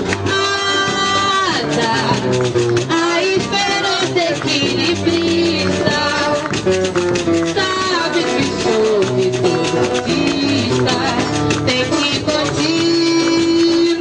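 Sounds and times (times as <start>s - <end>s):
woman singing: 0.0s - 6.6s, 7.4s - 14.0s
acoustic guitar strumming: 0.0s - 14.0s.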